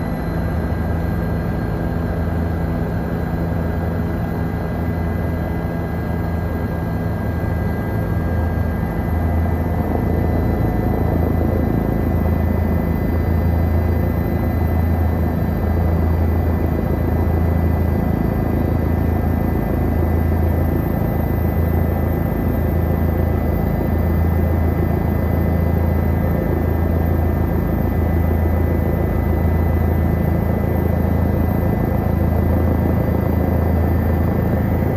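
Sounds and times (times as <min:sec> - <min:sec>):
helicopter throbbing drone: 0:00.0 - 0:34.9.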